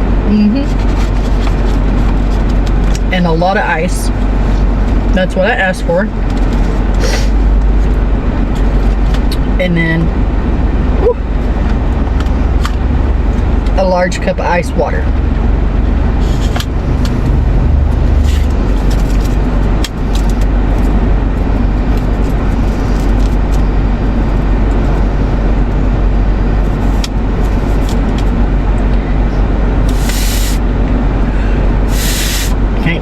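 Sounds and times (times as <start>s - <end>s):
air-conditioning fan blowing: 0.0s - 33.0s
car engine idling: 0.0s - 33.0s.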